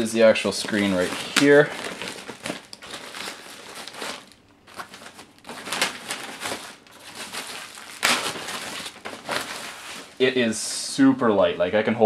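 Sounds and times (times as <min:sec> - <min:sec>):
plastic wrapping crinkling: 0:00.0 - 0:10.5.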